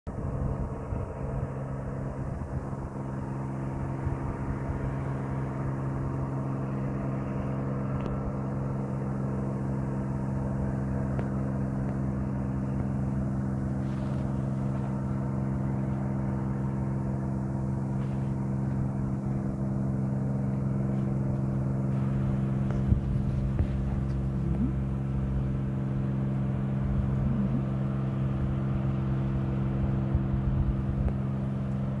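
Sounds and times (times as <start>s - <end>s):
low machine hum: 0.1s - 32.0s
low rumble: 0.1s - 32.0s.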